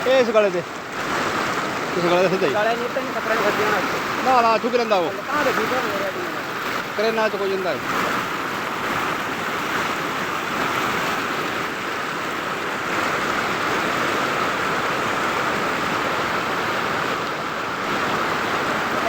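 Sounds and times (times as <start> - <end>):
floodwater rushing in stream: 0.0 - 19.0.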